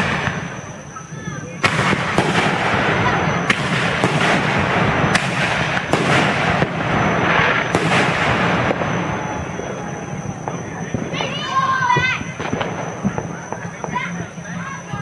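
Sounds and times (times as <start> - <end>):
fireworks bursting with sharp bangs: 0.0 - 15.0
noisy wash of fireworks display: 0.0 - 15.0.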